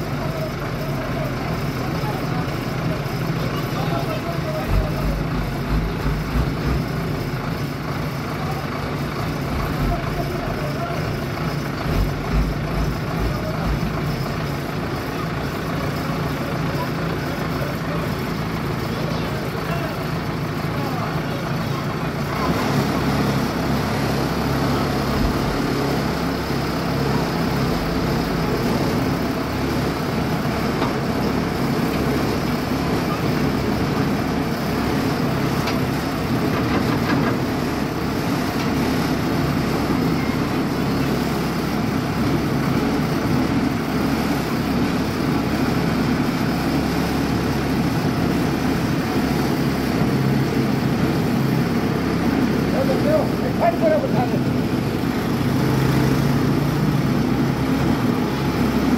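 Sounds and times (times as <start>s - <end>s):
heavy engine running steadily: 0.0s - 58.9s.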